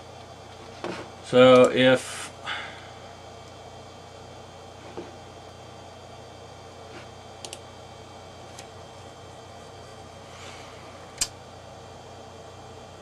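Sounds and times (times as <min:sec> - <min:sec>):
computer hum: 0:00.0 - 0:13.0.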